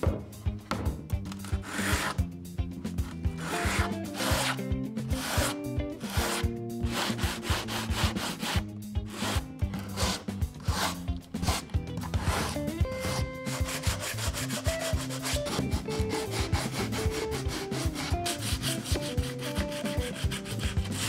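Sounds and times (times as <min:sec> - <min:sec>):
background music: 0:00.0 - 0:21.0
sandpaper rasping on wood: 0:01.4 - 0:02.2, 0:03.0 - 0:21.0.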